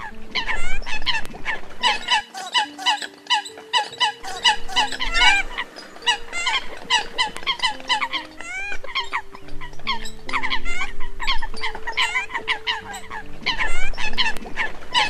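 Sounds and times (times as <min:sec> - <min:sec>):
coots calling: 0:00.0 - 0:15.0.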